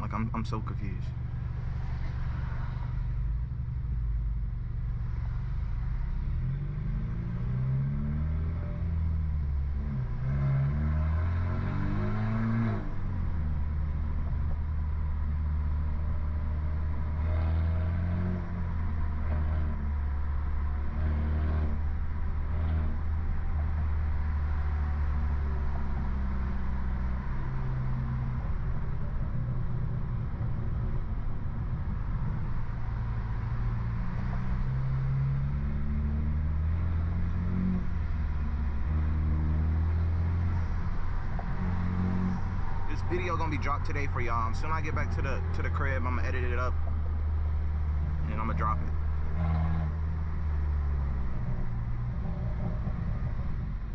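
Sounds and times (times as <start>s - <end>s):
car engine droning: 0.0s - 53.9s.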